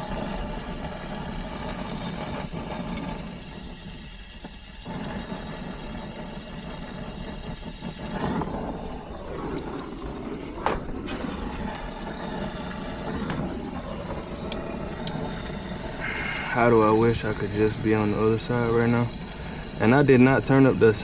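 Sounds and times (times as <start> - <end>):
torch flame burning: 0.0 - 21.0.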